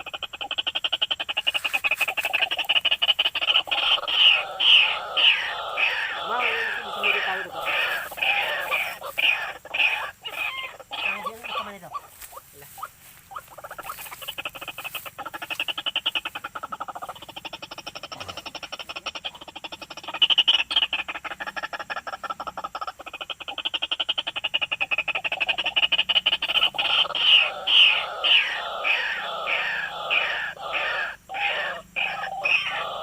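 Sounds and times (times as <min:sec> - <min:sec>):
waterhen croaking calls: 0:00.0 - 0:33.0.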